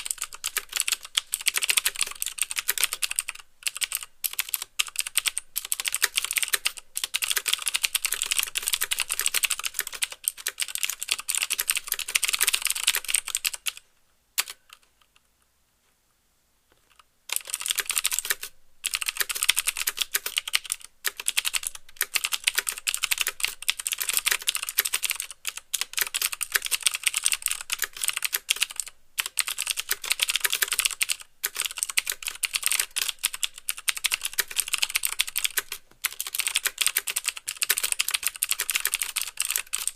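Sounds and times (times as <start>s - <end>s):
typing on a mechanical keyboard: 0.0s - 13.8s, 14.4s - 14.9s, 16.8s - 39.9s.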